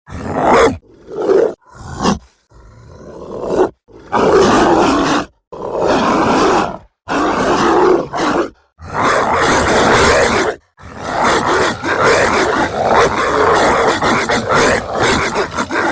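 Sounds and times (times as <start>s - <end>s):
monstrous dog barks and growls: 0.1s - 15.9s.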